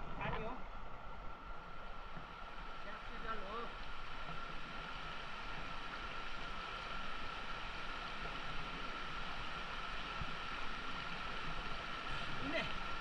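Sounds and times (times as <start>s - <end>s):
stream rushing over rocks: 0.1s - 13.0s.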